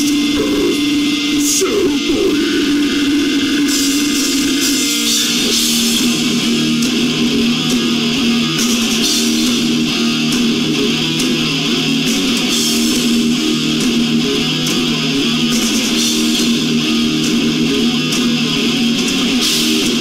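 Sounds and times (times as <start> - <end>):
death metal band playing live: 0.0 - 20.0.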